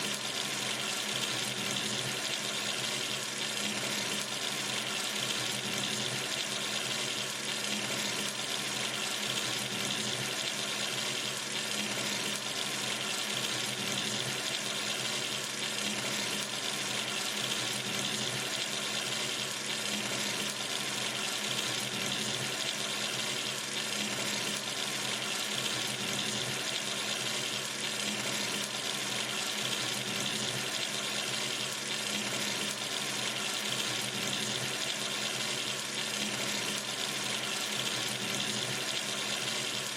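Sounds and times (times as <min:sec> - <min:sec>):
water running from tap: 0:00.0 - 0:39.9.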